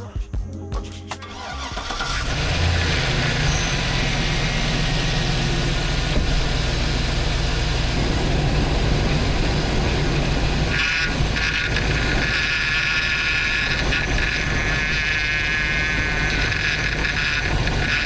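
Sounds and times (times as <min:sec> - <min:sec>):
engine rumbling: 0:01.2 - 0:18.0.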